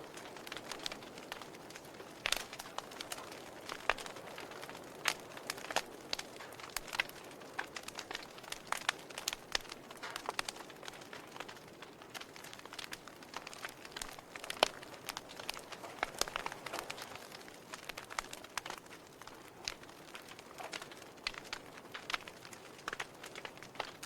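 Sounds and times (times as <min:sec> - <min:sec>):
soft hiss of fire: 0:00.0 - 0:24.0
wood fire crackling: 0:00.0 - 0:24.0.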